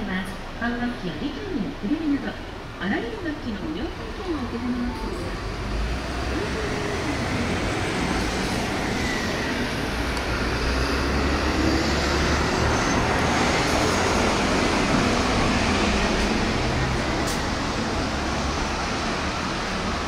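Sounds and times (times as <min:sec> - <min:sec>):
city road traffic: 0:00.0 - 0:20.0.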